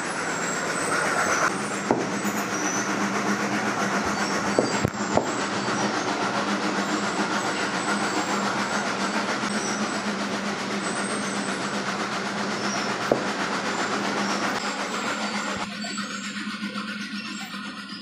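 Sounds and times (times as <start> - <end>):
steady mechanical rush: 0.0 - 18.0.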